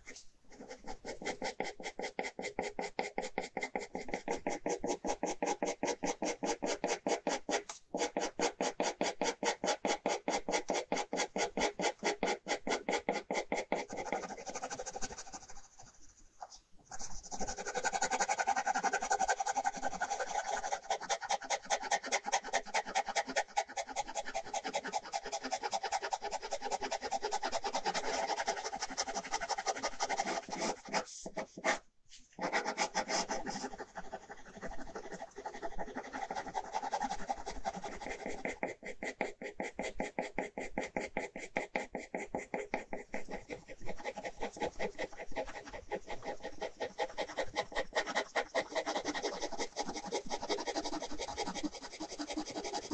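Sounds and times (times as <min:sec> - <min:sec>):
pen scratching on paper: 0:00.0 - 0:31.8, 0:32.4 - 0:52.9.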